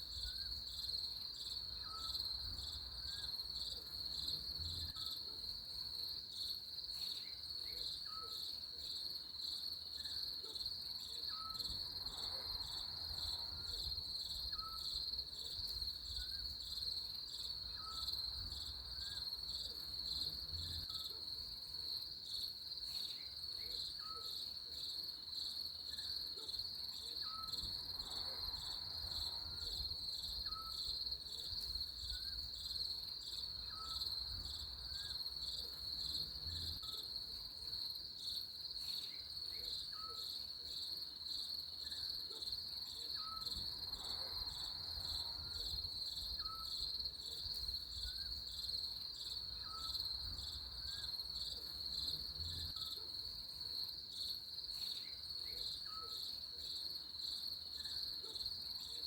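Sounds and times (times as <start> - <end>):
high-pitched cricket trill: 0.0 - 5.3, 11.1 - 21.6, 27.1 - 59.0.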